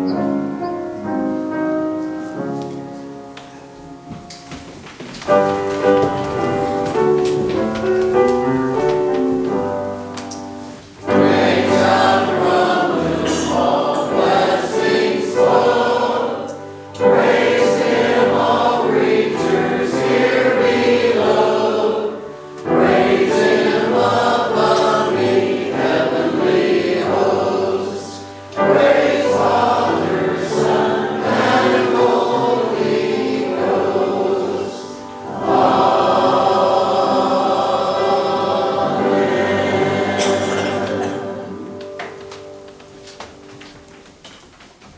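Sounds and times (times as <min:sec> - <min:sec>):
keyboard accompaniment: 0:00.0 - 0:44.9
church choir singing a hymn: 0:05.3 - 0:42.6.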